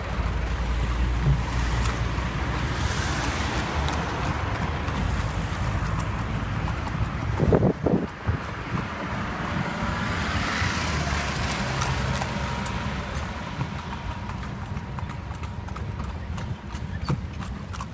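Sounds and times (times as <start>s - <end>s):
horse hooves on asphalt: 0.0s - 17.9s.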